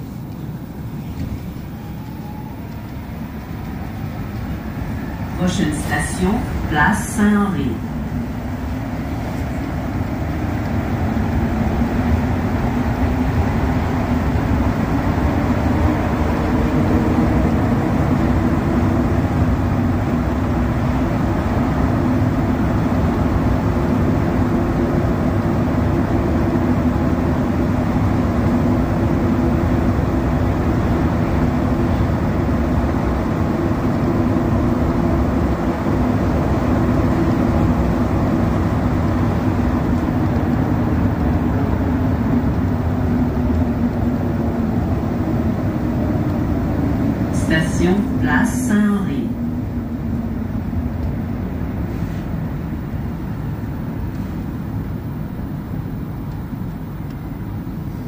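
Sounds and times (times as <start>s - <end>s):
rubber-tyred train whine: 0.0s - 58.0s
train rumble in tunnel: 0.0s - 58.0s.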